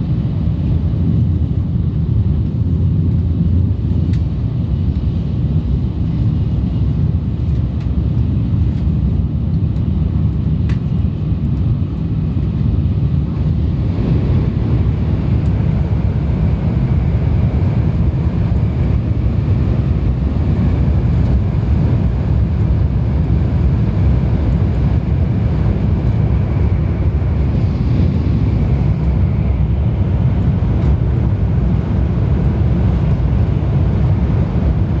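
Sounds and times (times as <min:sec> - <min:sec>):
train rumble heard on board: 0:00.0 - 0:35.0.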